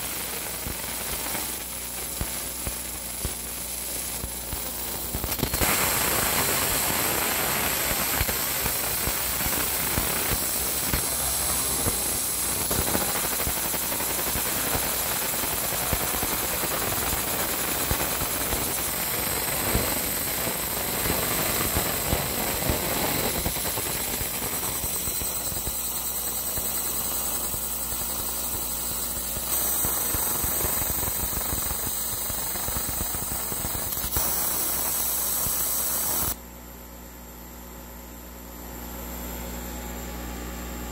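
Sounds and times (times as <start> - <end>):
laser engraver hissing: 0.0 - 36.4
thin high whine: 0.0 - 36.4.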